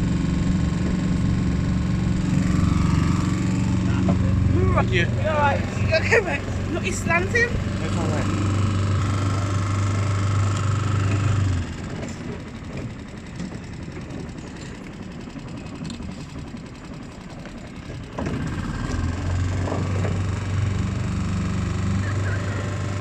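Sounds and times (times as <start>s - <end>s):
outboard boat engine running: 0.0s - 23.0s.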